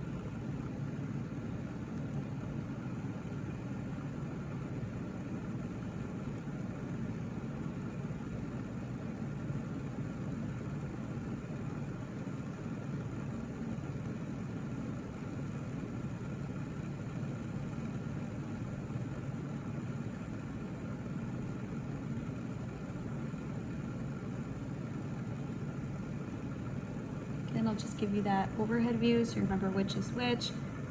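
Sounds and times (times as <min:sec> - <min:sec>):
low room hum: 0:00.0 - 0:30.9.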